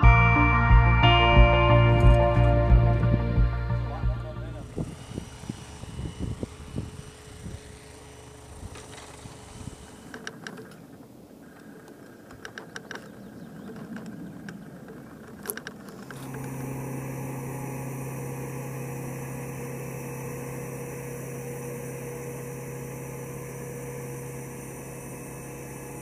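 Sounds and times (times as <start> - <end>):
drone propeller hum: 0.0 - 26.0.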